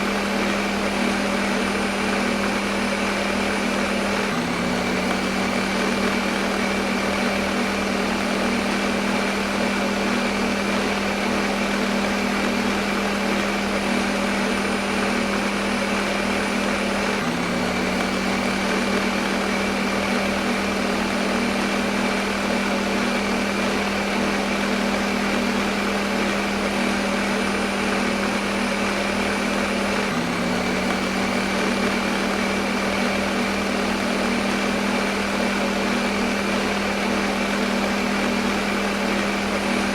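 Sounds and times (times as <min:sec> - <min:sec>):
blender motor running: 0:00.0 - 0:39.9.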